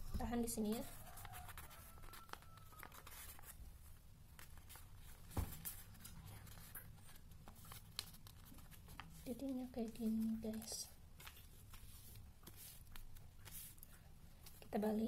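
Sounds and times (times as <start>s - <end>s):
paper rustling and creasing: 0.6s - 14.8s.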